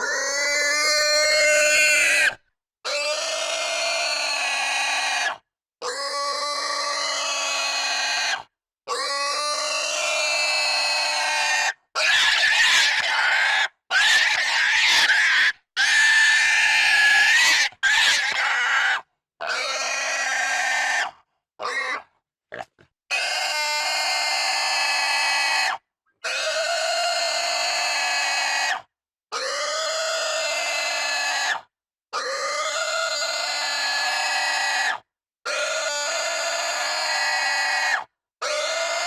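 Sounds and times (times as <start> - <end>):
pig squealing: 0.0 - 39.0.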